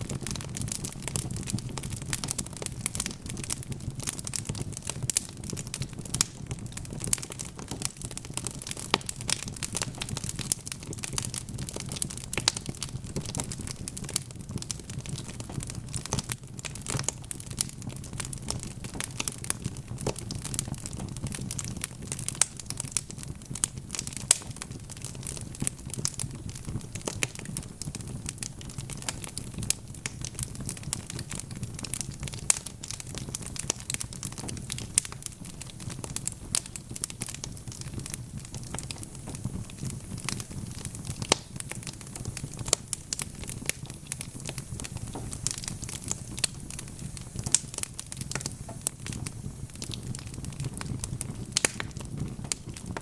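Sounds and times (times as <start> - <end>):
logs crackling and popping: 0.0 - 53.0
low rumble of flames: 0.0 - 53.0.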